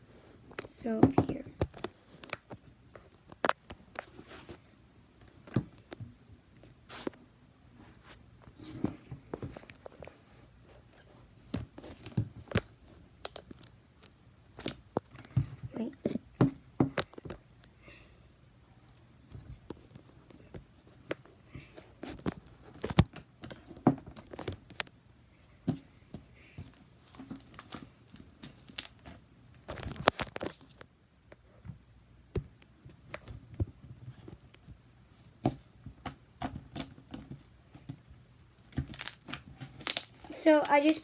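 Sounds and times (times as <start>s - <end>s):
handling taps clicks and crinkles: 0.5s - 7.2s, 8.1s - 10.3s, 10.9s - 17.8s, 18.8s - 41.0s.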